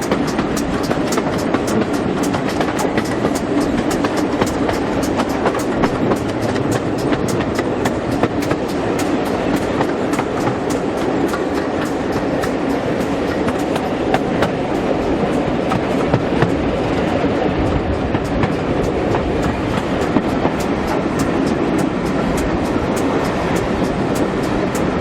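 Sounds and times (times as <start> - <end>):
wheels clicking over rail joints: 0.0 - 25.0
wheels rumbling on rail: 0.0 - 25.0.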